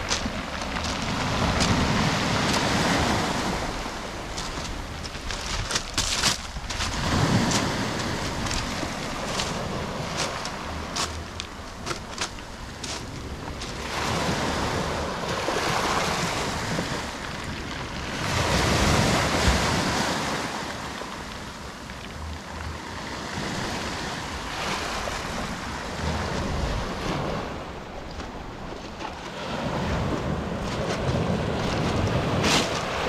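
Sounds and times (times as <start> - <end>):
waves breaking on pebble beach: 0.0 - 33.0
wind on microphone: 0.0 - 33.0.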